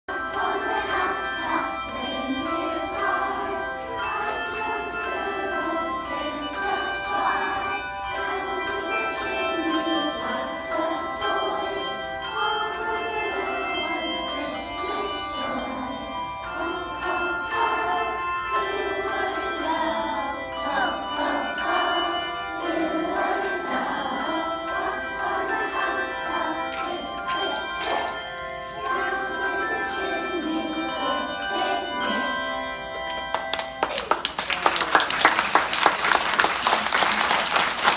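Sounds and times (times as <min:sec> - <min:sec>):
handbell choir playing: 0:00.1 - 0:37.9.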